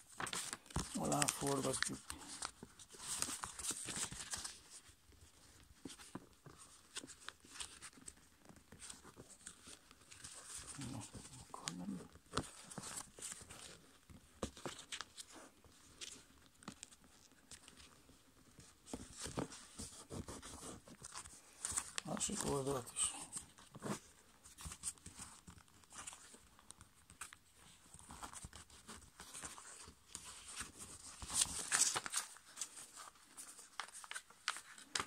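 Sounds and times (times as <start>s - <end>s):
paper being folded and creased: 0.0s - 35.0s.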